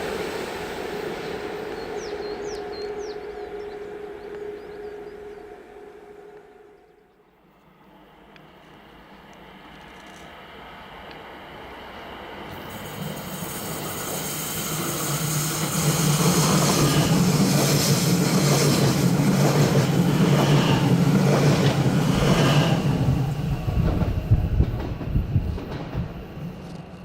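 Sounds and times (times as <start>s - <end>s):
train low hum: 0.0s - 27.0s.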